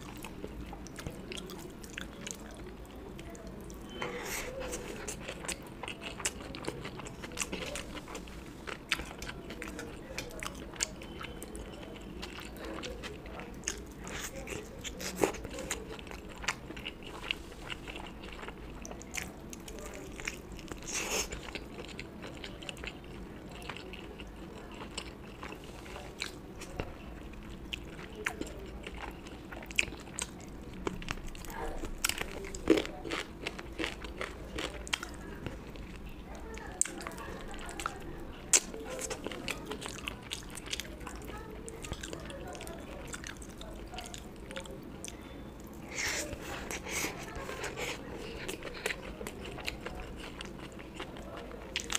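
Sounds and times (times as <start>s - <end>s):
person chewing: 0.0s - 51.9s.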